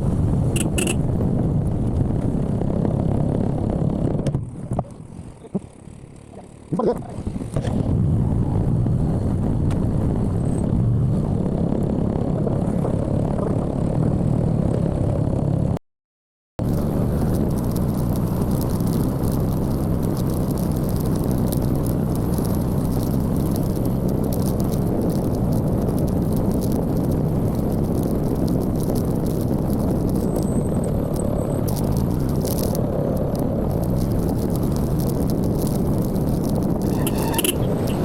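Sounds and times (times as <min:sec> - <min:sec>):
motorcycle road and wind noise: 0:00.0 - 0:15.8, 0:16.6 - 0:38.0.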